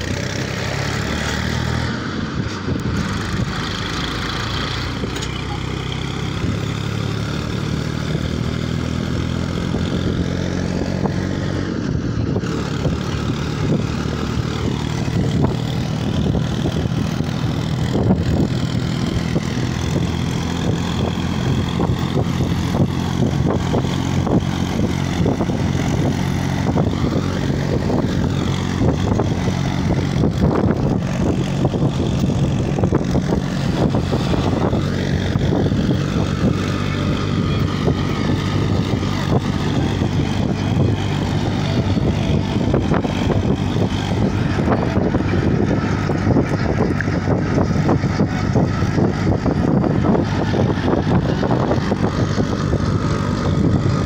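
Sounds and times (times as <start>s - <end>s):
wind noise: 0.0s - 5.2s, 6.3s - 54.0s
road noise: 0.0s - 54.0s
tractor diesel engine running: 0.0s - 54.0s.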